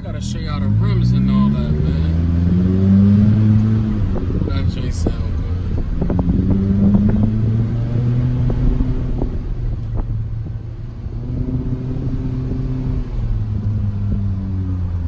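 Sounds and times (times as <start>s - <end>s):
car engine drone: 0.0s - 15.0s.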